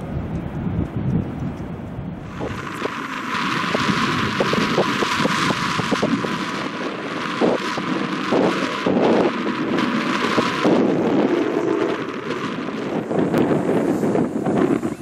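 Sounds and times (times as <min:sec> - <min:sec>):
passenger train running past: 0:00.0 - 0:15.0
wind buffeting microphone: 0:00.0 - 0:15.0.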